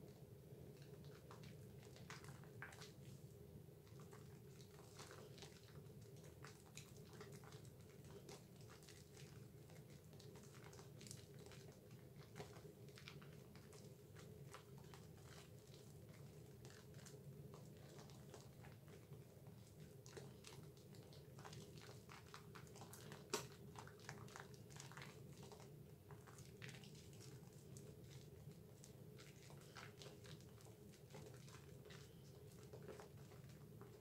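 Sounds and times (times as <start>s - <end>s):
soap lather squishing: 0.1s - 34.0s.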